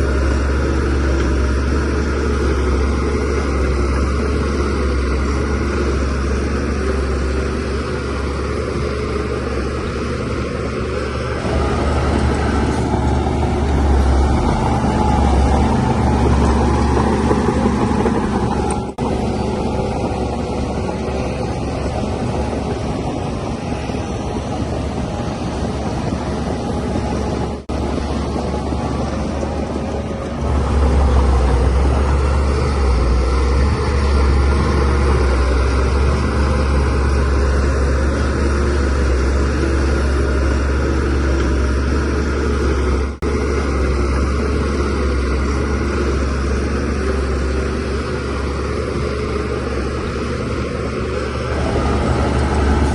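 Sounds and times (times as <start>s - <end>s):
bulldozer diesel engine rumbling: 0.0s - 52.9s.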